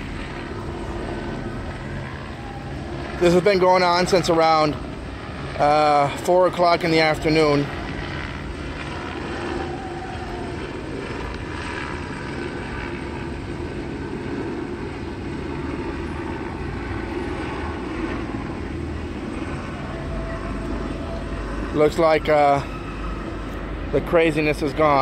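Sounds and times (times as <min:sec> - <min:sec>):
aircraft rotors droning: 0:00.0 - 0:25.0
outdoor noise: 0:00.0 - 0:25.0.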